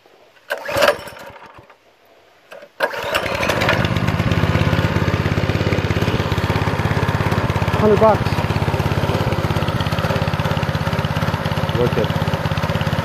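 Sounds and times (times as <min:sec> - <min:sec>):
small engine starting and running: 0:00.4 - 0:01.8, 0:02.5 - 0:13.0.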